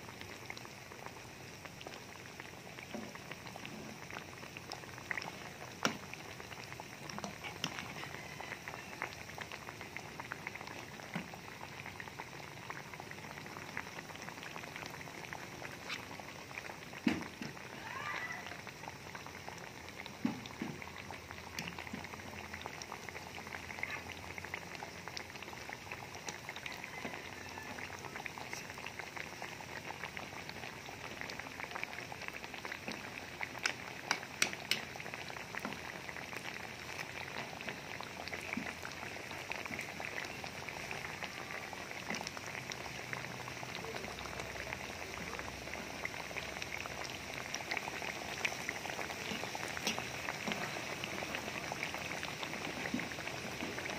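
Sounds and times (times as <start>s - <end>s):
deep-frying sizzle with crackles: 0.0s - 53.9s
oil popping: 0.2s - 24.4s, 25.0s - 53.9s.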